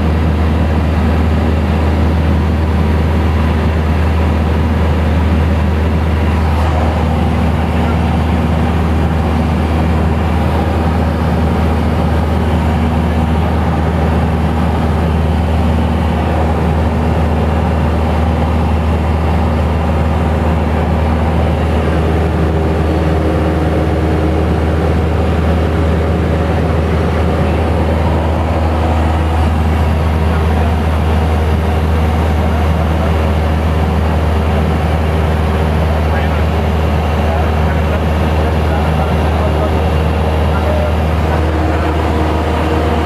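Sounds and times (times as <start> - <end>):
light aircraft engine drone: 0.0 - 43.0.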